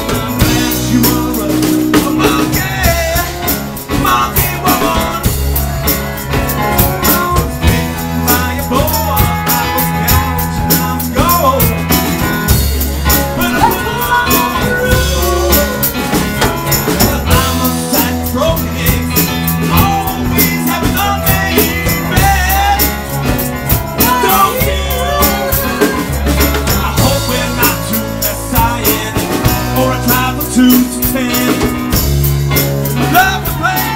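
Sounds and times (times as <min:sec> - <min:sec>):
drum kit beat: 0:00.0 - 0:33.9
electric bass: 0:00.0 - 0:33.9
man singing lead: 0:00.0 - 0:33.9.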